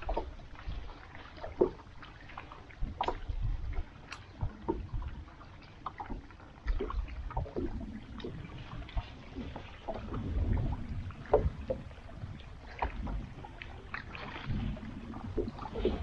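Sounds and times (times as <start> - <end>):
low uneven rumble: 0.0 - 16.0
water lapping against boat hull: 0.0 - 16.0.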